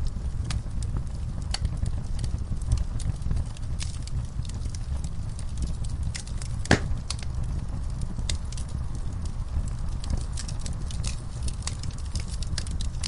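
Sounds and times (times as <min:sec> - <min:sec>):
fire crackles and pops: 0:00.0 - 0:13.0
wood fire burning: 0:00.0 - 0:13.0.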